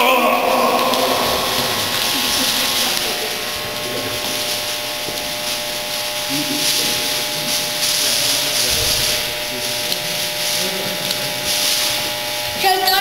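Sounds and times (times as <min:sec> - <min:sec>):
faint indistinct voices: 0:00.0 - 0:13.0
steady hiss: 0:00.0 - 0:13.0.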